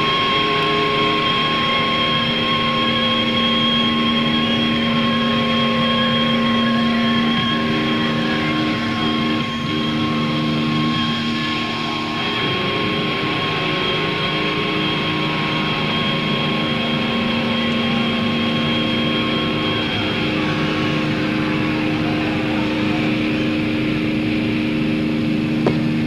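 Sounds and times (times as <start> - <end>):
crowd cheering: 0.0 - 26.0
guitar amplifier feedback drone: 0.0 - 26.0.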